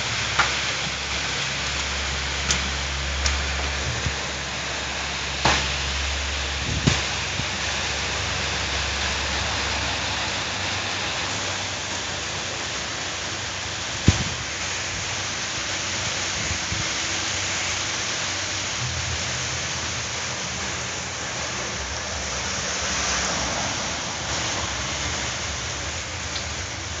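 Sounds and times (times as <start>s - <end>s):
rain pouring: 0.0s - 27.0s.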